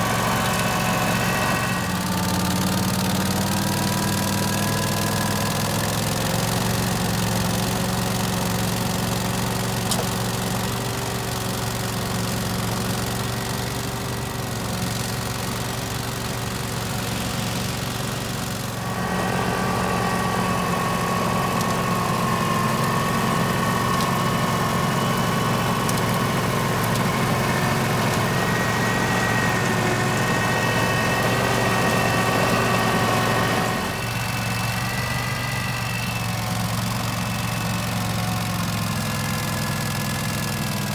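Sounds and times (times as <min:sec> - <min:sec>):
ride-on mower engine running: 0:00.0 - 0:40.9
snow blower throwing snow: 0:00.0 - 0:40.9.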